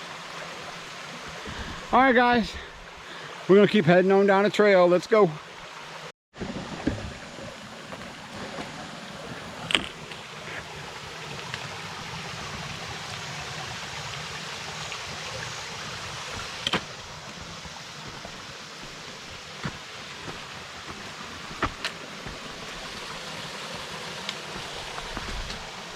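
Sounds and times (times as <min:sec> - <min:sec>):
creek water flowing: 0:00.0 - 0:25.9.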